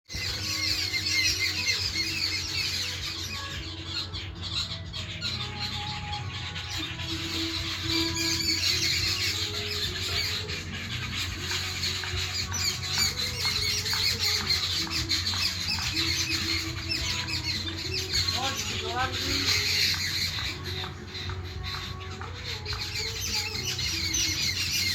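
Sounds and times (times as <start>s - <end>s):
birds squealing and squawking: 0.1s - 24.9s.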